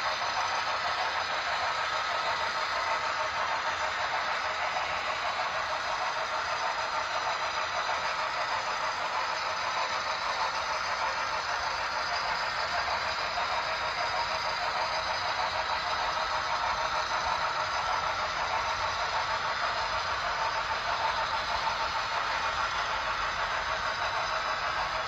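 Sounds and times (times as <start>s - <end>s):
model train rattling on rails: 0.0s - 25.0s.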